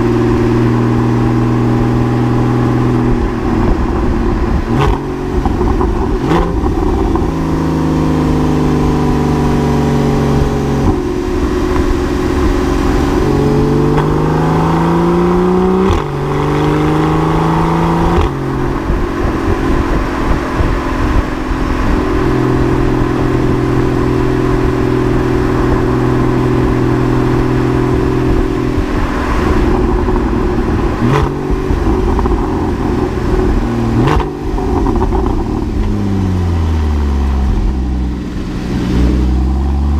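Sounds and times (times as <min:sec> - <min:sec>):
sports car engine revving: 0:00.0 - 0:39.9.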